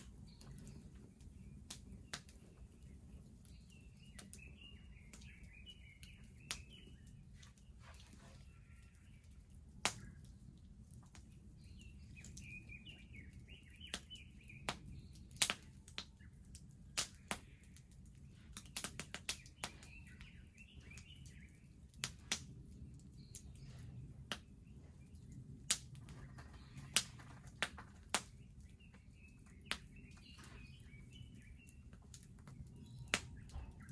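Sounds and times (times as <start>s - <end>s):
bonfire crackling and popping: 0.0s - 33.9s
small birds twittering: 0.0s - 33.9s.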